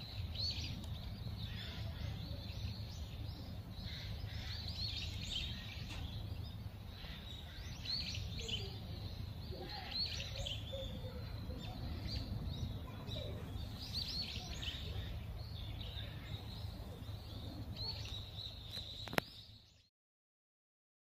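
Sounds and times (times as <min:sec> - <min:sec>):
low outdoor rumble: 0:00.0 - 0:19.8
small birds chirping: 0:00.0 - 0:19.9.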